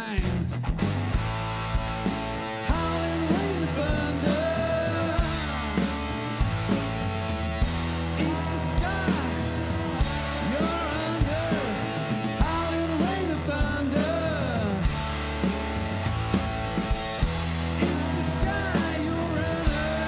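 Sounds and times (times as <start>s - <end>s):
blues-rock band playing live: 0.0s - 20.0s.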